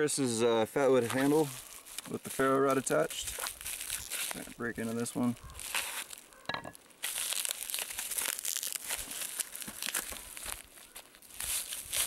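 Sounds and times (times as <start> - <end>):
bubble wrap crinkling: 0.8 - 12.0.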